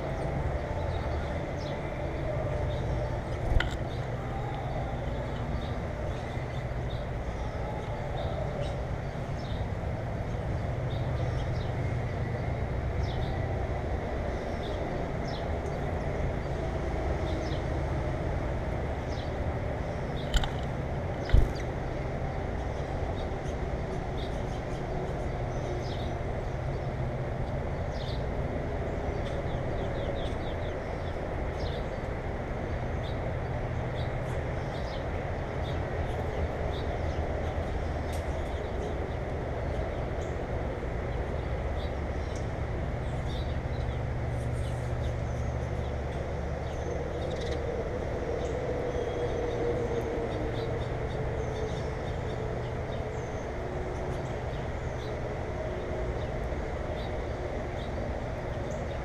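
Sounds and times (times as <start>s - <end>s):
low mechanical rumble with hum: 0.0s - 59.0s.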